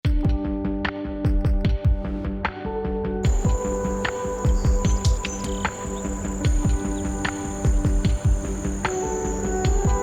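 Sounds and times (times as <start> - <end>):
music with thudding beat: 0.0 - 2.6, 3.2 - 10.0.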